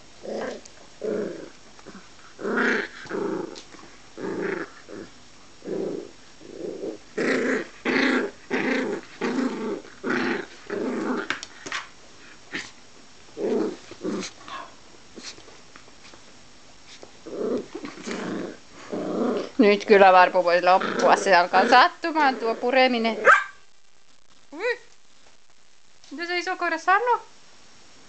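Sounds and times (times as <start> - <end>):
puppy play-growling: 0.0 - 16.2, 16.8 - 23.4.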